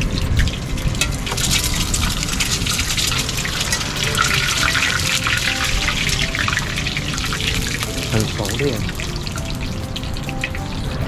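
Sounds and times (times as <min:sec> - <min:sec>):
water gushing from tap: 0:00.0 - 0:10.6
crackling splash: 0:00.0 - 0:11.0.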